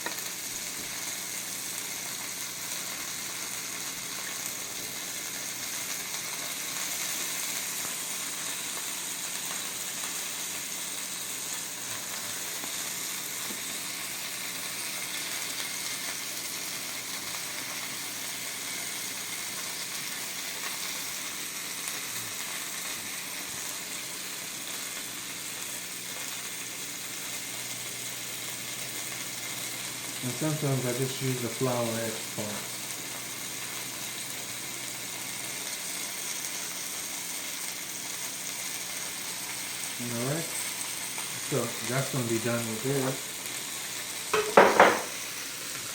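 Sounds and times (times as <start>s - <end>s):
chicken sizzling in a pan: 0.0s - 45.9s.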